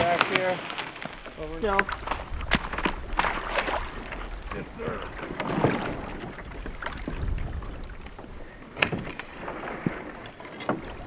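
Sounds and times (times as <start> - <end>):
canoe hull scraping on ice: 0.0 - 11.0
canoe knocks: 0.0 - 11.0.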